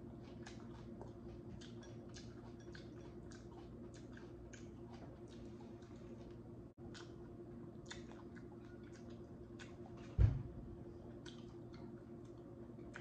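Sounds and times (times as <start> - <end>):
faint chewing with mouth clicks: 0.0 - 10.2, 10.8 - 13.0
low steady hum: 0.0 - 13.0.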